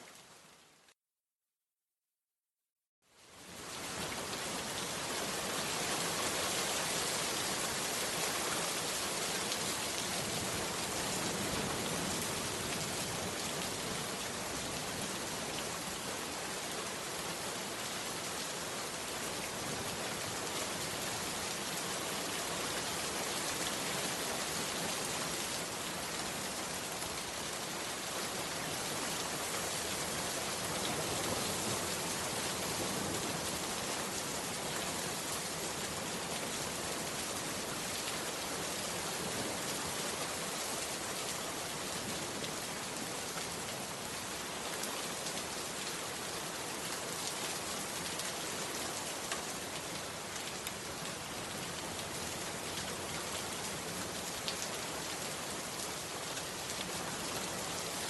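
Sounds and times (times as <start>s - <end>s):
heavy rain falling: 3.4s - 58.0s.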